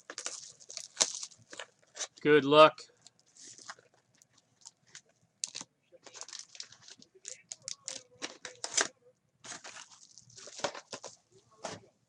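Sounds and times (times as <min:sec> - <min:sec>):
wrapper tearing and crinkling: 0:00.0 - 0:02.2, 0:03.0 - 0:11.2.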